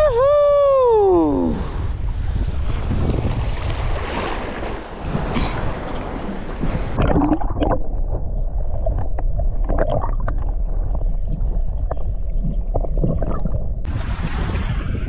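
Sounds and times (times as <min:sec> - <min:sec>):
low rumble: 0:00.0 - 0:15.0
muffled underwater water rush: 0:01.6 - 0:15.0.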